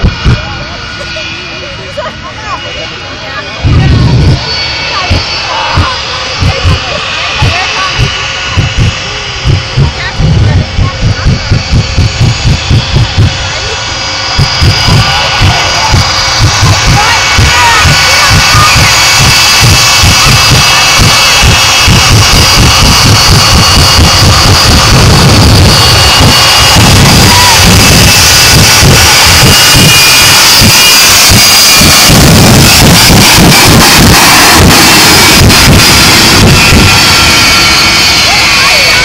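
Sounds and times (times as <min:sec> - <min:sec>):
jet engines with afterburners: 0:00.0 - 0:39.0.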